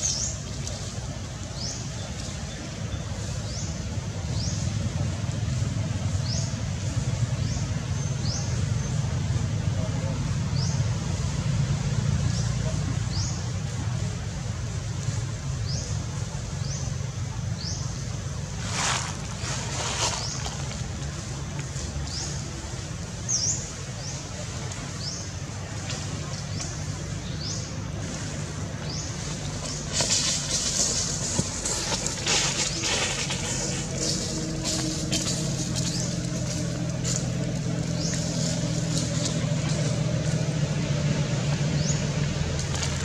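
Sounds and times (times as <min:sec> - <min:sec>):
leaves rustling: 0:00.0 - 0:43.0.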